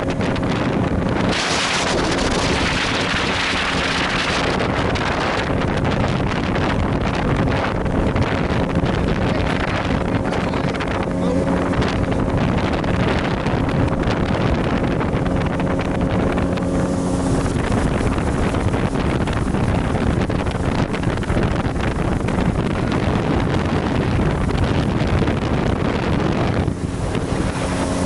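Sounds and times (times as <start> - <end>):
boat engine humming: 0.0 - 28.0
wind buffeting microphone: 0.0 - 28.0.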